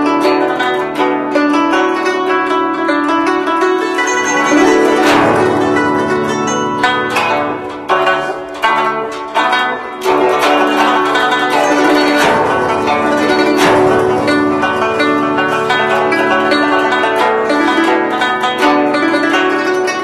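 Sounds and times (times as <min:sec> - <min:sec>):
plucked zither: 0:00.0 - 0:20.0.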